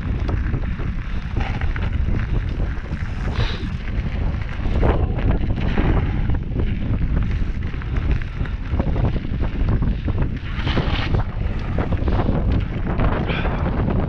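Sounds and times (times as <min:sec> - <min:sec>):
bike tyres crackling on gravel: 0:00.0 - 0:14.0
wind buffeting microphone: 0:00.0 - 0:14.0.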